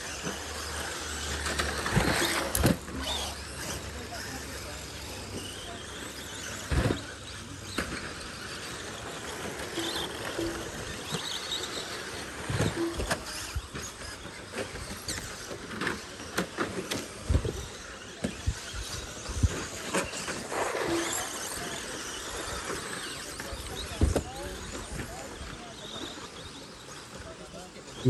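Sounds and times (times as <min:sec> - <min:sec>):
toy car motors whining: 0:00.0 - 0:28.0.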